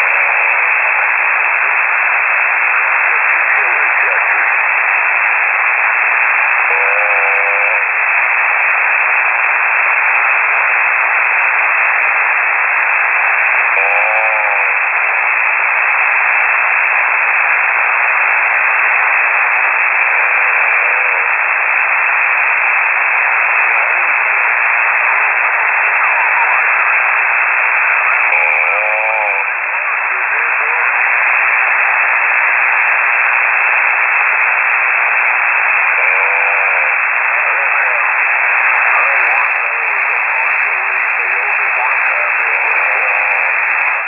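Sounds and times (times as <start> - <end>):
person snoring over radio: 0.0 - 44.0
radio static hiss: 0.0 - 44.0.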